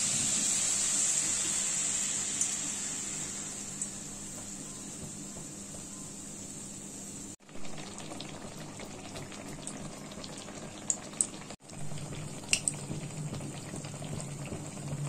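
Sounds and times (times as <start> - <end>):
batter sizzling in hot oil: 0.0 - 15.0.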